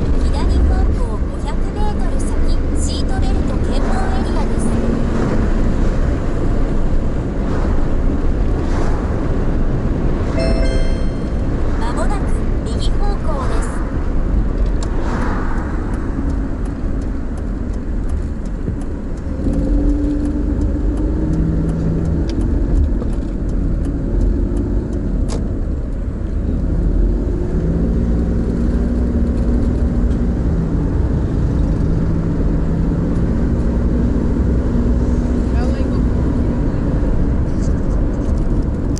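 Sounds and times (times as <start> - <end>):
car engine hum while driving: 0.0 - 10.4, 11.5 - 38.9.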